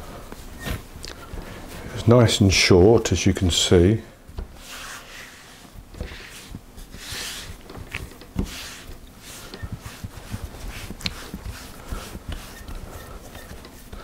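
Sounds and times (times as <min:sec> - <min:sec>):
hands rubbing dough: 0:00.0 - 0:14.0.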